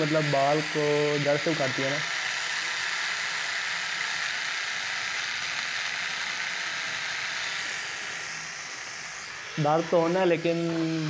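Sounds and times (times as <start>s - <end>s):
epilator buzzing: 0.0s - 11.0s.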